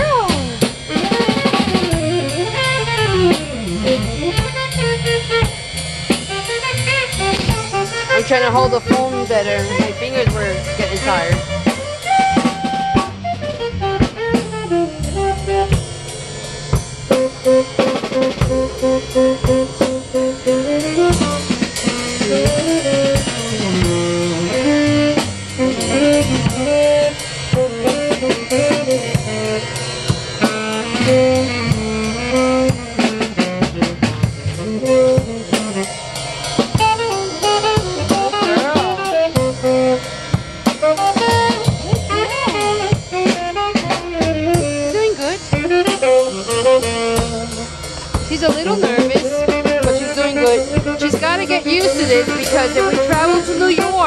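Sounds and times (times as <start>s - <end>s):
drum kit with cymbals: 0.0s - 54.0s
saxophone melody: 0.0s - 54.0s
upright bass: 0.0s - 54.0s.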